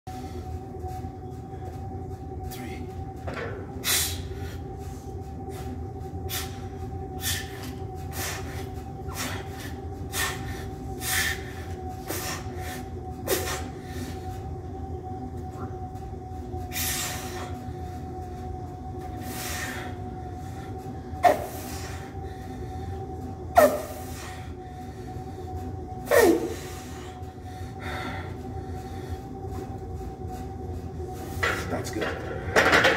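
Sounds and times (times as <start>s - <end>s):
steady background hum: 0.0s - 32.9s.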